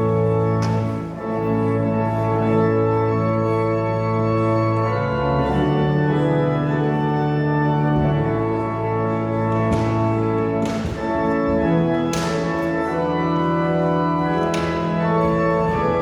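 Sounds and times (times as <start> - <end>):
church organ chords: 0.0 - 16.0.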